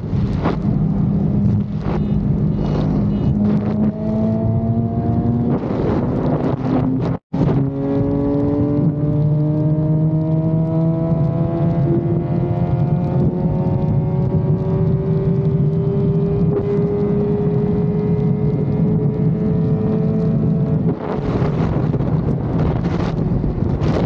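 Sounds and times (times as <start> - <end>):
motorcycle engine accelerating: 0.0 - 24.0
wind rush: 0.0 - 24.0.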